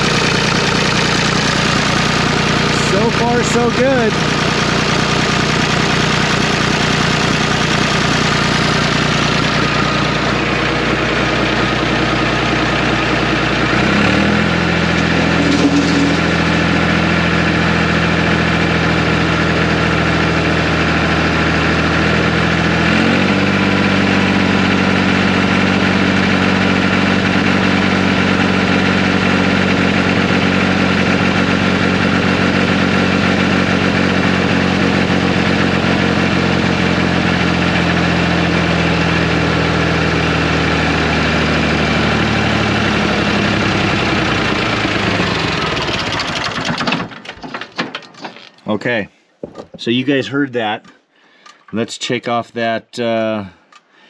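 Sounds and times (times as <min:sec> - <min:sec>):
bulldozer diesel engine running: 0:00.0 - 0:48.8.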